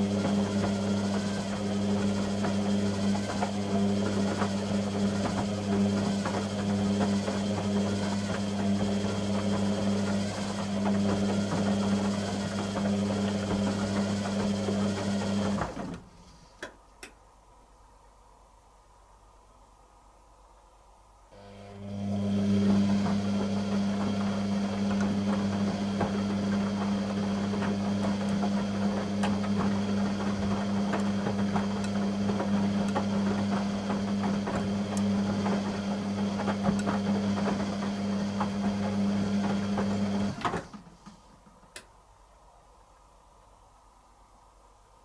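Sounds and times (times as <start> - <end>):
washing machine hum: 0.0 - 16.5, 21.3 - 45.0.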